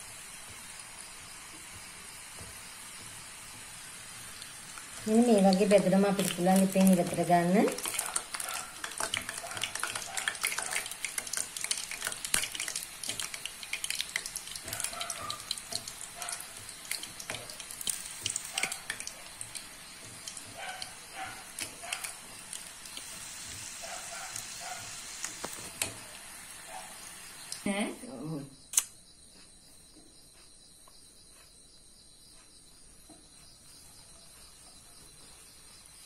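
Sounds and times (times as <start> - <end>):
dough deep-frying in oil: 0.0 - 29.0, 31.2 - 36.0.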